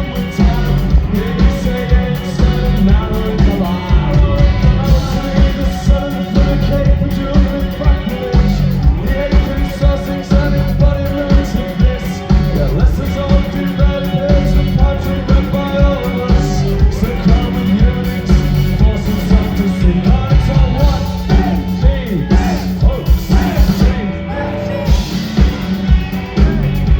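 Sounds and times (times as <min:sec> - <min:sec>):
drums keeping steady beat: 0:00.0 - 0:26.9
live rock band playing: 0:00.0 - 0:26.9.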